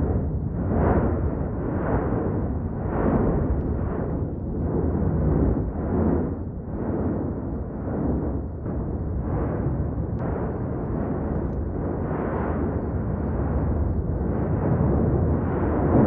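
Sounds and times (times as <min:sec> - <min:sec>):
volcano low rumble: 0:00.0 - 0:16.0.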